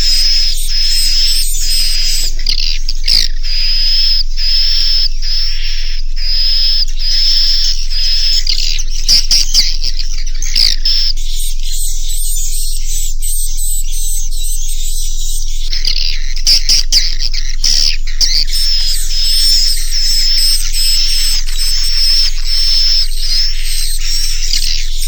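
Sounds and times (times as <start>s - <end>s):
repeated high bird chirps: 0.0s - 25.0s.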